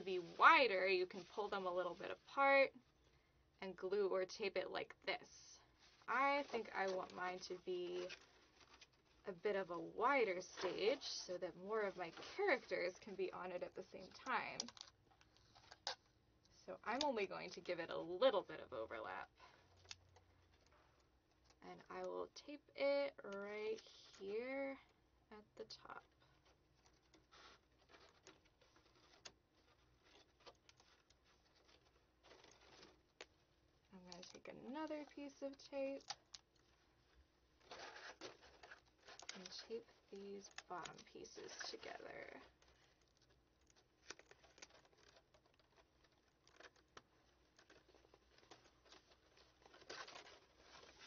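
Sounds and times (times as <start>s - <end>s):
faint rustling of card: 0.0s - 25.1s, 25.7s - 51.0s.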